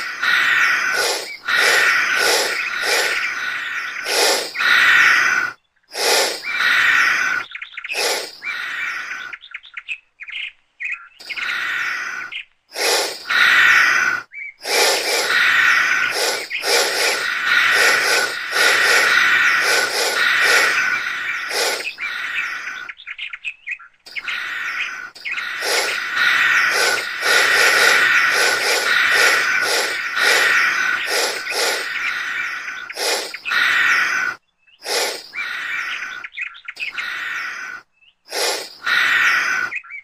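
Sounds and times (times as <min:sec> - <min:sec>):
bird-like chirping: 0:00.0 - 0:40.0.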